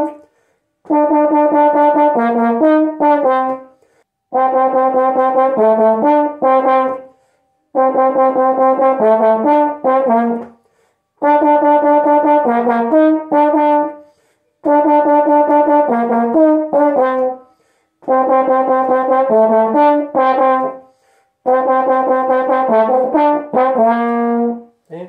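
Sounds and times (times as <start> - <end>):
solo trombone playing: 0.0 - 0.2, 0.8 - 3.7, 4.3 - 10.6, 11.2 - 24.7.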